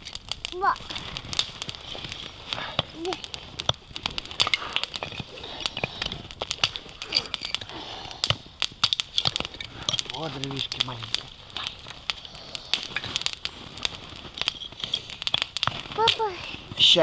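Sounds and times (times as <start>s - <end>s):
campfire crackling: 0.0s - 17.0s
twigs snapping and popping: 0.0s - 17.0s.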